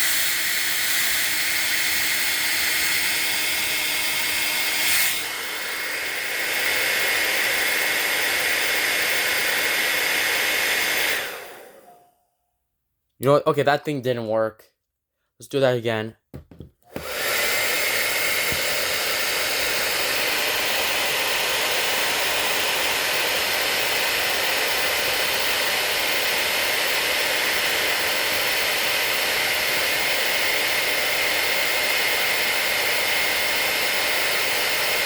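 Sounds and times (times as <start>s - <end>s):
hair dryer running: 0.0s - 12.0s, 16.9s - 35.0s.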